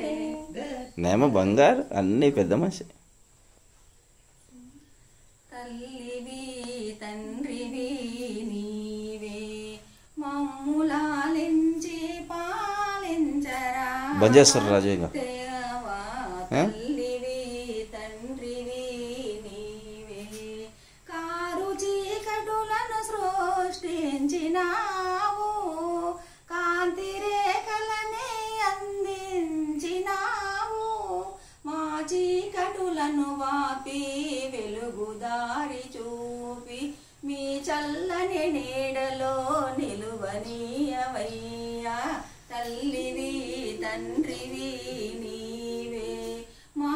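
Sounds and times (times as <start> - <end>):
women singing devotional song: 0.0 - 2.1, 3.1 - 46.9.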